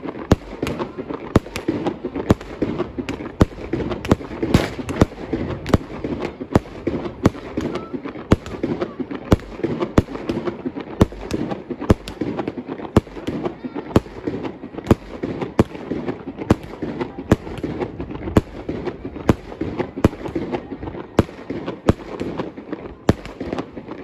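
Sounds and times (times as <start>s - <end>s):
fireworks bangs: 0.0s - 24.0s
fireworks crackling and rumbling: 0.0s - 24.0s.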